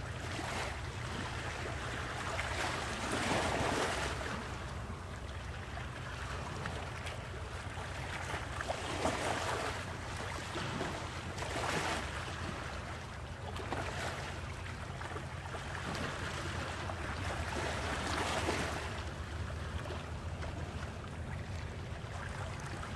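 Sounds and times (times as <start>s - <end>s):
sea waves breaking: 0.0s - 22.9s.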